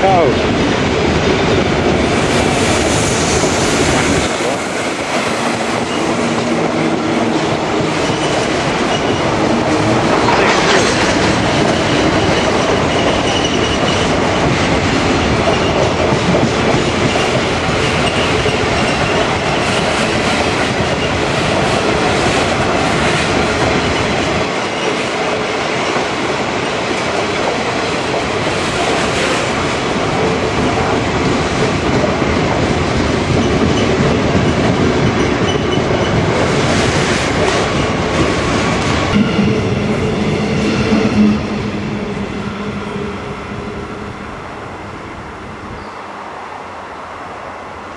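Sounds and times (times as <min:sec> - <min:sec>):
train wheels clattering on rails: 0:00.0 - 0:42.6.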